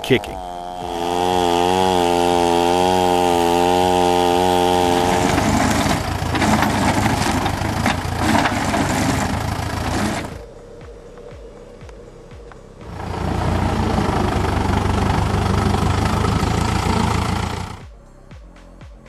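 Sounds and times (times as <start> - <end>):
chainsaw running at high revs: 0.0 - 10.5, 12.8 - 17.9.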